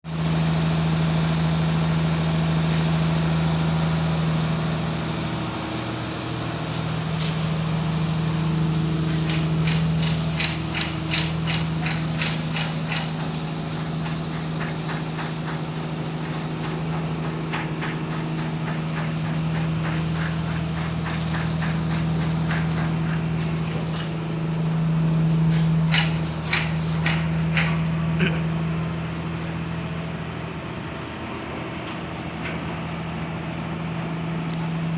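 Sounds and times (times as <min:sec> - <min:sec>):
low machine hum: 0:00.1 - 0:34.9.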